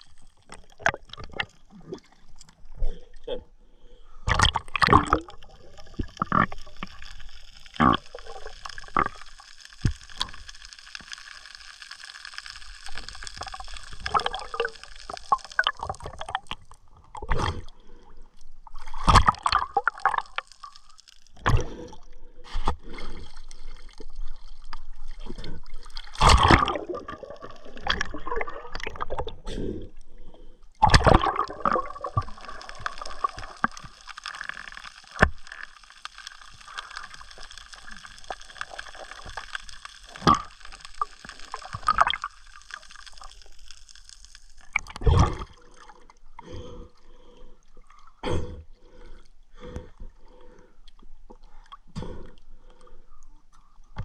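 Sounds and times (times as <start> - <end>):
underwater gurgling and bubbling: 4.2 - 11.6, 12.5 - 18.0, 18.6 - 49.8.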